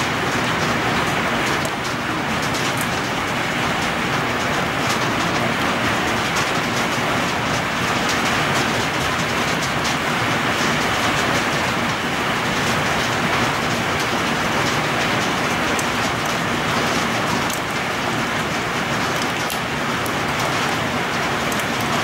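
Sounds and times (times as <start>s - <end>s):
heavy rain pouring on trees: 0.0s - 22.0s.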